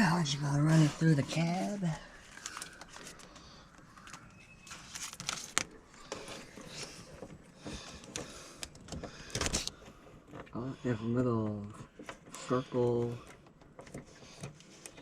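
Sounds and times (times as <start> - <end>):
wiring harness rustling: 0.0 - 15.0.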